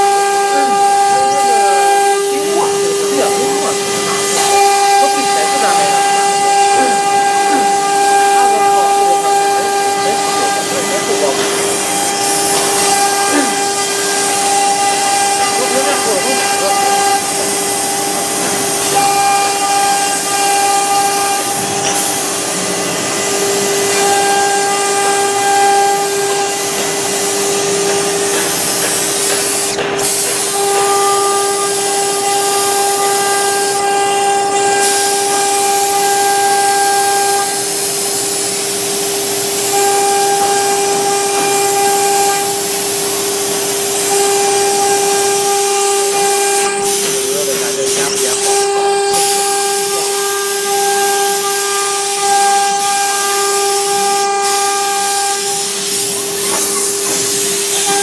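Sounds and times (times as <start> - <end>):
router spindle whining: 0.0 - 58.0.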